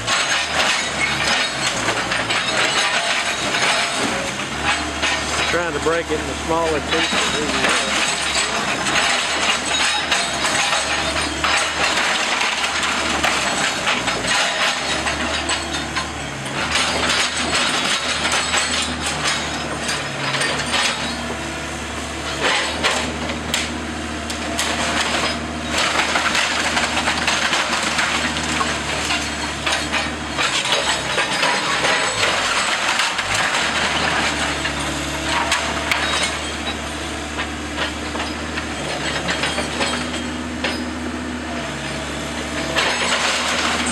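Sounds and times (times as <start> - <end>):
wood cracking and splintering: 0.0 - 21.6, 22.3 - 41.1, 42.5 - 43.9
heavy machine engine drone: 0.0 - 43.9.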